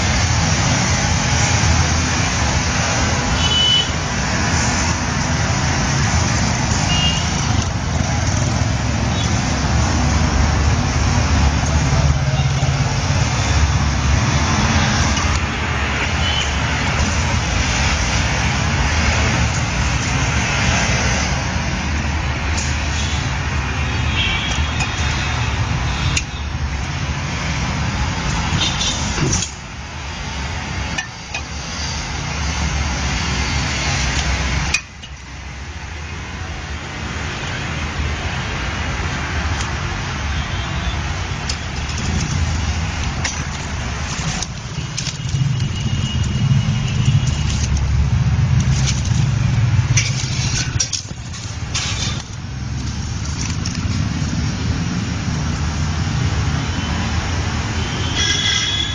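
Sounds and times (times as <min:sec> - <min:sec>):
vehicle engine rumbling: 0:00.0 - 0:36.9, 0:37.8 - 0:56.4.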